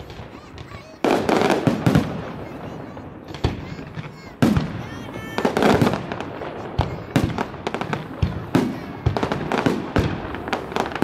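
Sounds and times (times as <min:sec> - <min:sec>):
fireworks banging and crackling: 0:00.0 - 0:11.0.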